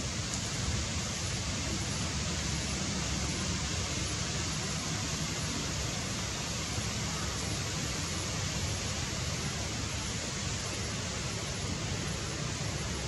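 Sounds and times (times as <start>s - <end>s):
steady ambient hiss: 0.0s - 13.0s.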